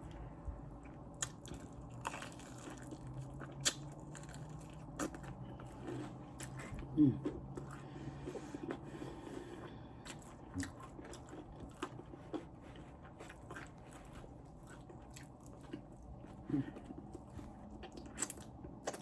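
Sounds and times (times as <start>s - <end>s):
crisp chewing crunches: 1.1s - 7.8s, 10.0s - 19.0s.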